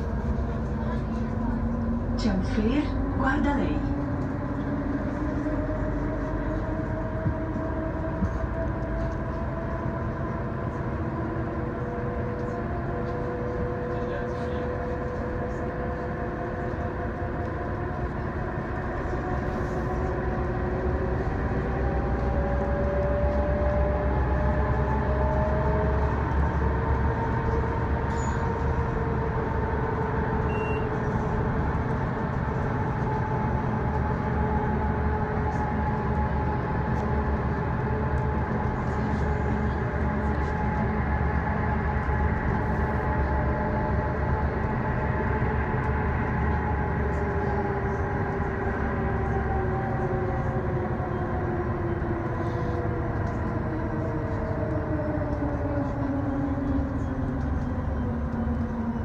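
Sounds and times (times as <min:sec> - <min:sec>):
bus engine and road rumble: 0:00.0 - 0:59.0
rising engine whine: 0:00.0 - 0:59.0.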